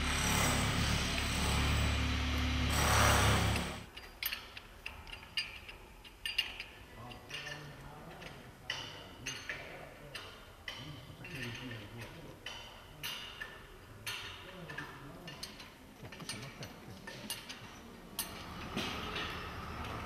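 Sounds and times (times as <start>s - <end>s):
sharp clicks and metallic clinks: 3.5s - 20.0s.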